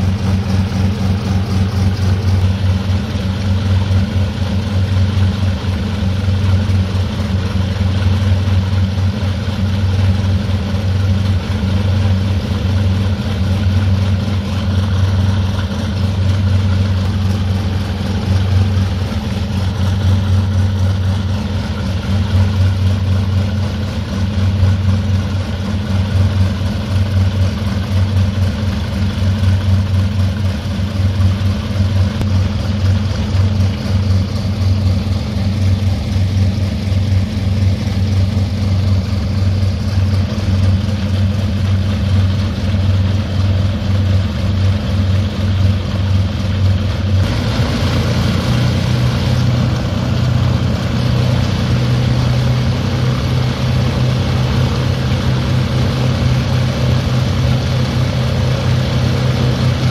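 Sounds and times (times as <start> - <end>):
aircraft piston engines droning: 0.0 - 59.9.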